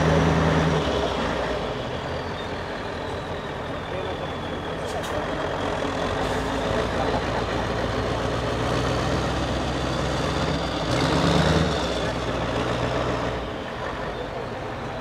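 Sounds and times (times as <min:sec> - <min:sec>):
diesel truck engine at low revs: 0:00.0 - 0:15.0.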